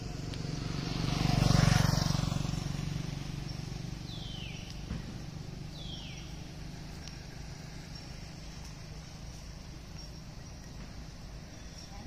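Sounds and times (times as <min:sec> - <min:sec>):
low hum of passing vehicle: 0:00.0 - 0:12.0.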